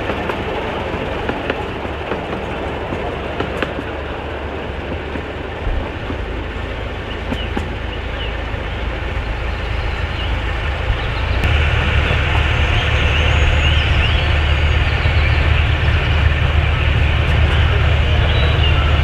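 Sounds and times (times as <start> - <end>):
diesel locomotive droning: 0.0 - 19.0.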